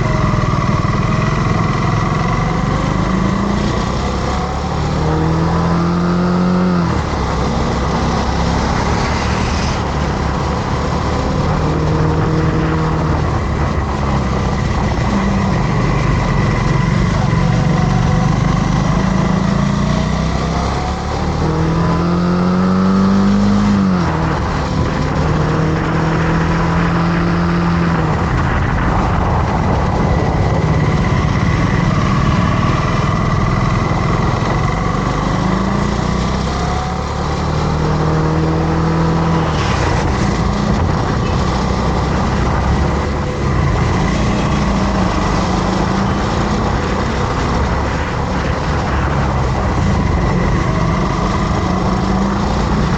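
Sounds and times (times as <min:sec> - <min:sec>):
motorcycle engine revving: 0:00.0 - 0:52.9
wind noise: 0:00.0 - 0:52.9.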